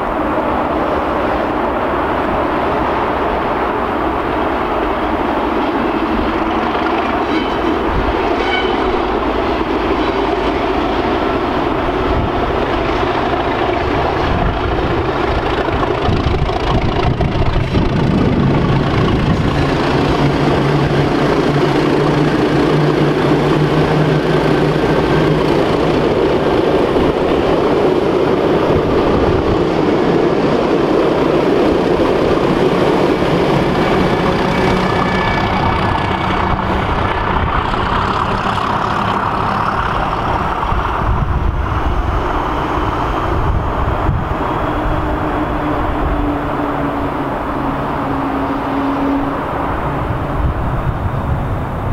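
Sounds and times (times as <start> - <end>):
diesel locomotive engines growling: 0.0 - 51.9.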